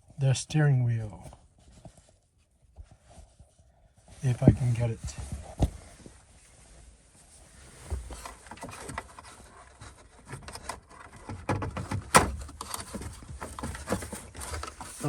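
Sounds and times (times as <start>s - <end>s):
handling noise clicks and rubbing: 1.2s - 15.0s.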